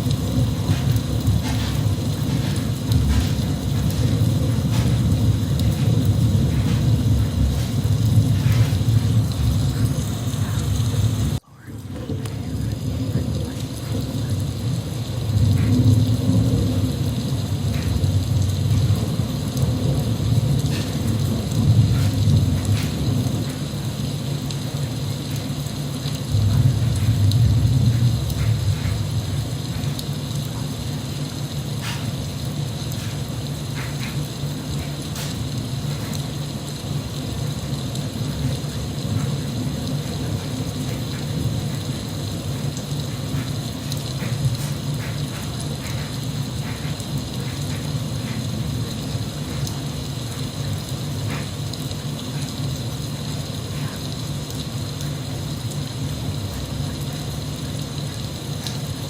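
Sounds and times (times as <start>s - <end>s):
raindrops ticking: 0.0s - 59.0s
steady rain rumble: 0.0s - 59.0s.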